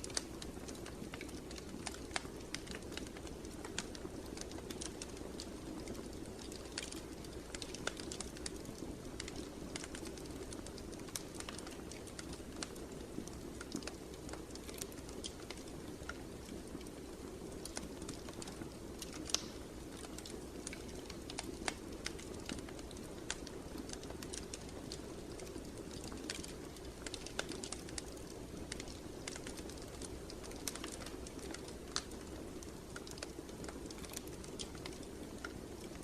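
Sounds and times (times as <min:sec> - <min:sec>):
fire popping and snapping: 0:00.0 - 0:36.0.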